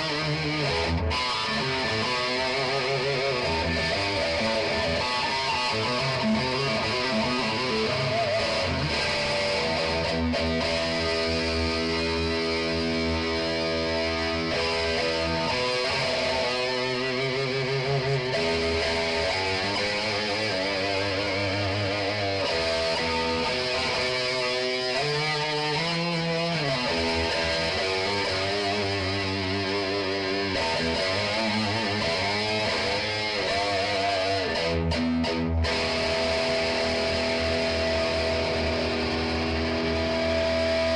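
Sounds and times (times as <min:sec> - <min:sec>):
distorted electric guitar lead: 0:00.0 - 0:40.9.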